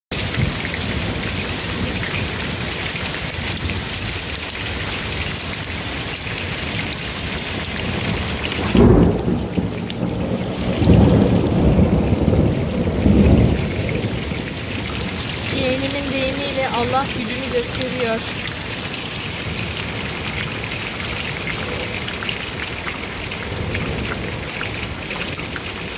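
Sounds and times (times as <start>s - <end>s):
thunder clap and rumbling: 0.1s - 4.4s, 6.6s - 22.6s, 23.3s - 25.9s
heavy rain pouring: 0.1s - 25.9s.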